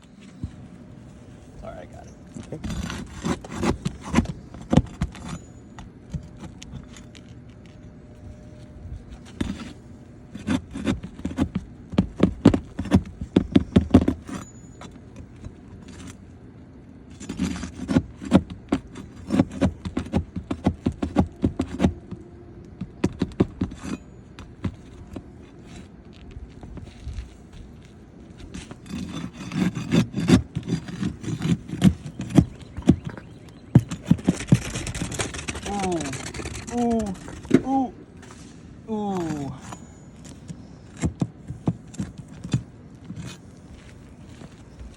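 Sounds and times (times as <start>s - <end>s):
metal tool scraping under shingles: 0.0s - 16.4s, 17.0s - 44.9s.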